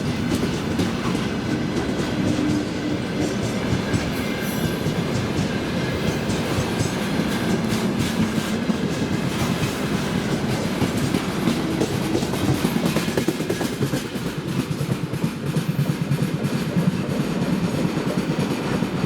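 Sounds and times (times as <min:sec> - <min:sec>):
train wheels clattering over rail joints: 0:00.0 - 0:19.0.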